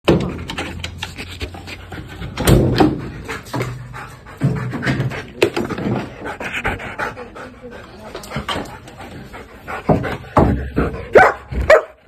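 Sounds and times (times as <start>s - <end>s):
dog panting: 0.4s - 11.4s.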